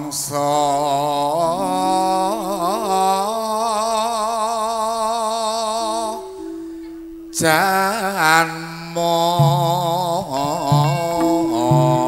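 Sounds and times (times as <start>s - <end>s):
person singing with vibrato: 0.0s - 12.0s
held accompaniment chords: 1.0s - 12.0s.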